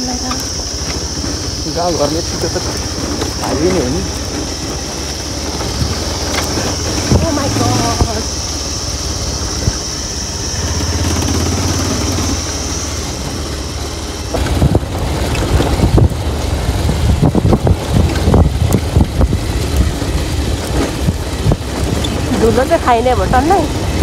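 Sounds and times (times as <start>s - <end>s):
high whine: 0.0s - 19.5s
motorbike engine running: 0.0s - 24.0s
motorbike rattling over stones: 0.0s - 24.0s.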